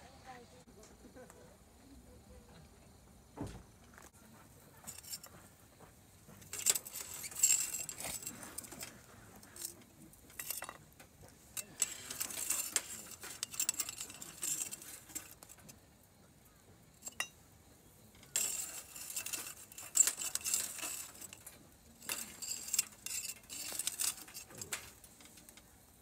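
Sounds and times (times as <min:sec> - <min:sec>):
wood fire crackling: 0:03.9 - 0:26.0
metal clinking at fire grill: 0:04.4 - 0:26.0.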